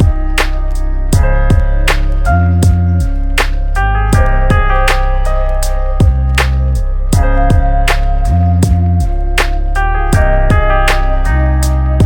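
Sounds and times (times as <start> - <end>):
melodic music with drum beat: 0.0 - 12.0.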